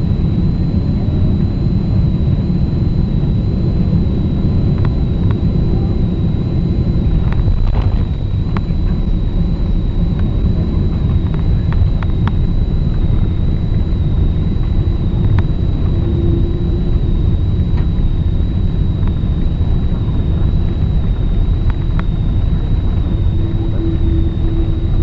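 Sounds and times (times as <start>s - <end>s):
airplane cabin rumble: 0.0s - 25.0s
faint steady high whine: 0.0s - 25.0s.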